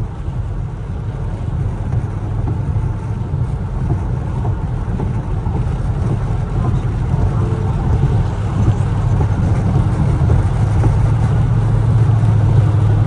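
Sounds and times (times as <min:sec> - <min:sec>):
car exhaust rumble from inside: 0:00.0 - 0:13.0.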